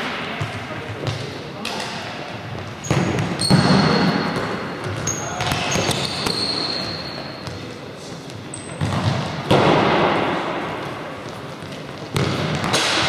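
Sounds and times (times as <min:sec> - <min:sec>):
ball thumps in echoing hall: 0:00.0 - 0:13.0.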